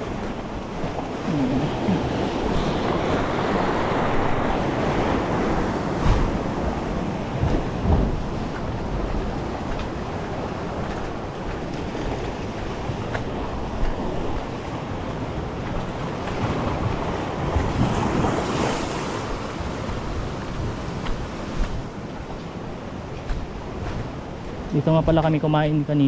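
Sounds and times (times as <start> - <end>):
wind buffeting microphone: 0.0 - 25.3
surf breaking against rocks: 0.1 - 21.9.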